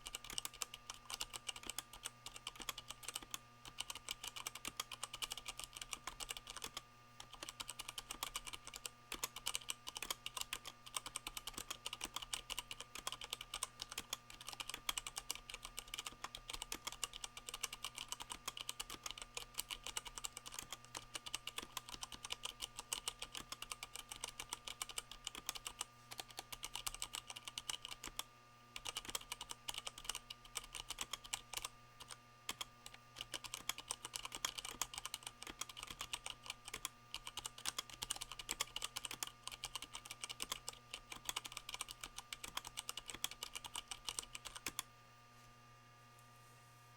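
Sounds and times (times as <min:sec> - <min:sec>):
fast typing on mechanical keyboard: 0:00.0 - 0:44.8.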